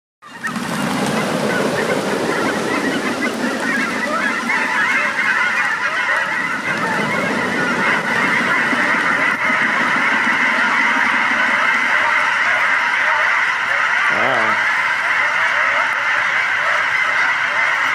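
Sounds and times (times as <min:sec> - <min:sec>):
flock of birds calling: 0:00.2 - 0:17.9.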